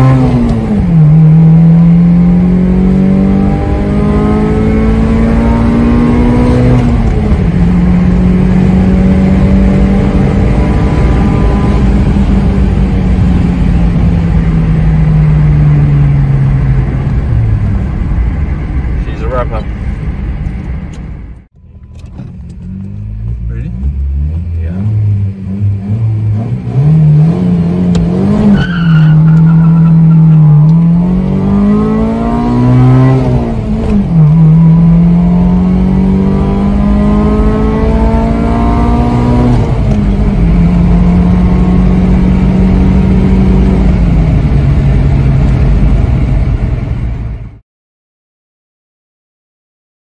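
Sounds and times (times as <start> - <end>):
car engine accelerating: 0.0 - 47.6.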